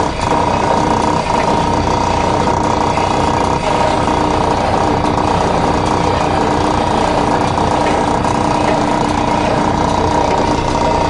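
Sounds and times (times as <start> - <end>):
escalator hum: 0.0 - 11.0
escalator mechanical rattle: 0.0 - 11.0.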